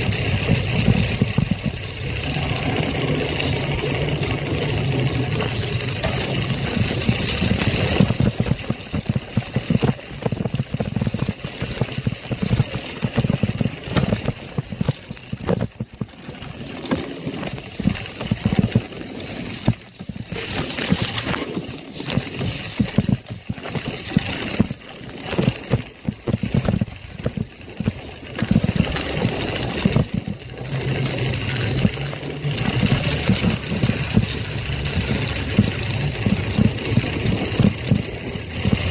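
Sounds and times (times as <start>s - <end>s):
motorbike engine running unevenly: 0.0s - 38.9s.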